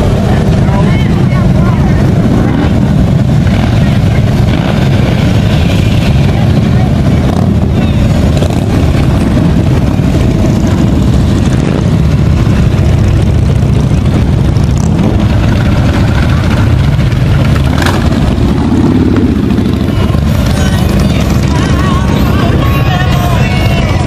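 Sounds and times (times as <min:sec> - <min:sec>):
motorcycles riding slowly past: 0:00.0 - 0:24.0.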